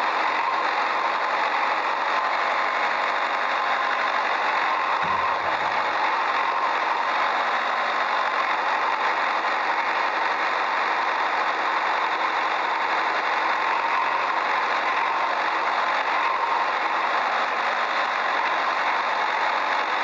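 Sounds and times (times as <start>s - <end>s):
small motor humming: 0.0s - 20.0s.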